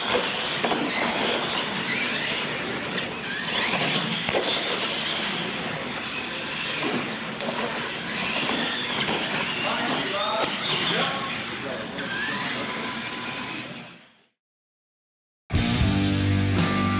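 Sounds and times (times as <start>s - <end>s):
toy truck motor whine: 0.0s - 14.4s.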